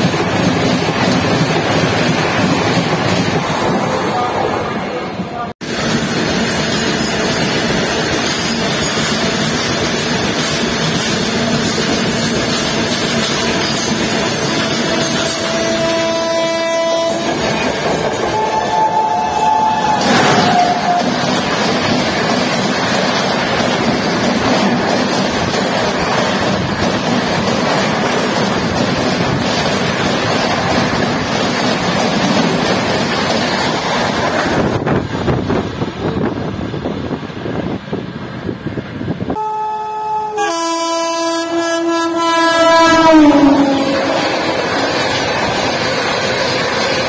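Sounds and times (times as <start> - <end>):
train coaches passing at speed: 0.0 - 47.0.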